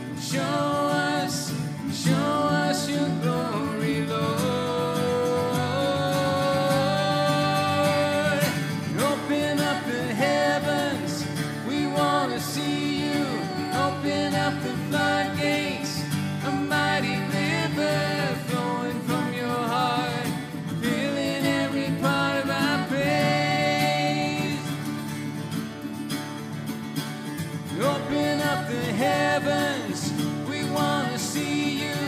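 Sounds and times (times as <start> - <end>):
people singing: 0.0 - 25.2, 27.7 - 32.0
acoustic guitars playing chords: 0.0 - 32.0.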